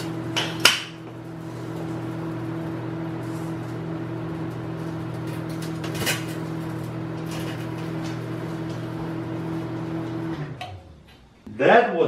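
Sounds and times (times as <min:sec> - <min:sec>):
microwave oven humming: 0:00.0 - 0:11.5.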